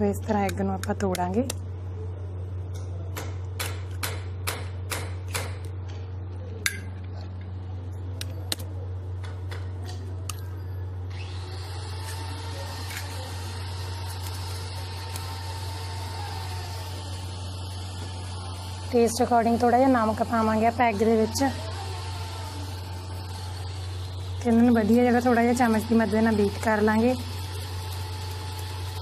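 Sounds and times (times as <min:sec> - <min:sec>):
constant low hum: 0:00.0 - 0:29.0.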